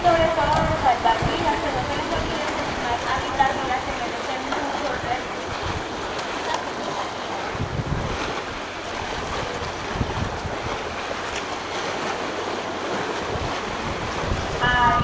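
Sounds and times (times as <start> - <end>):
wind on microphone: 0.0 - 11.4, 12.9 - 15.0
choppy sea water: 0.0 - 15.0.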